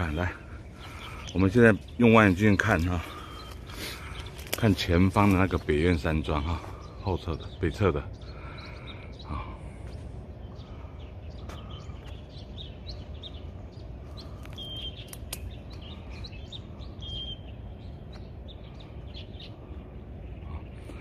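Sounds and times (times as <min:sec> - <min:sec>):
birds chirping and calling: 0:00.0 - 0:21.0
low background rumble: 0:00.0 - 0:21.0.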